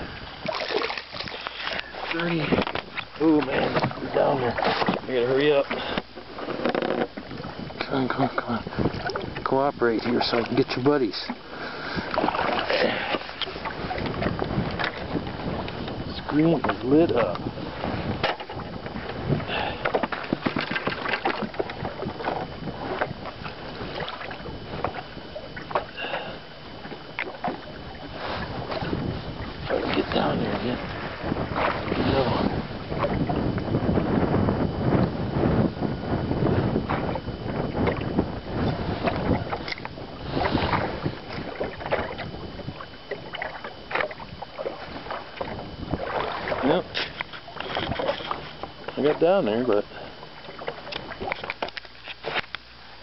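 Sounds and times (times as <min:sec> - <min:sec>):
handling clicks and knocks in boat: 0:00.0 - 0:35.2, 0:36.8 - 0:53.0
wind on microphone: 0:00.0 - 0:53.0.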